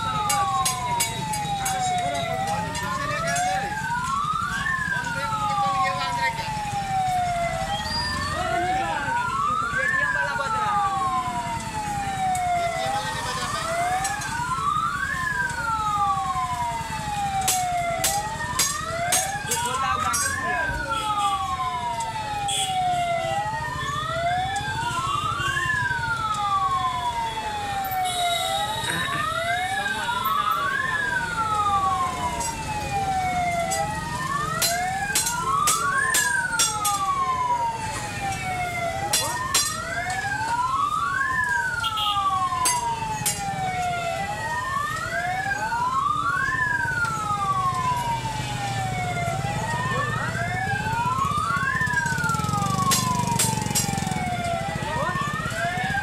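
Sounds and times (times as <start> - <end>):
alarm siren wailing: 0.0 - 56.0.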